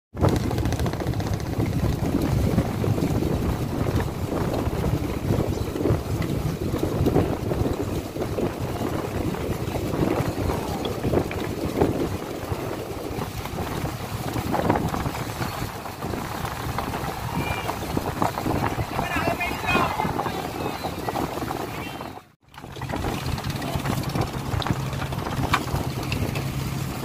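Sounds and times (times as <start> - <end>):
wind buffeting microphone: 0.1 - 27.0
water rushing along hull: 0.2 - 27.0.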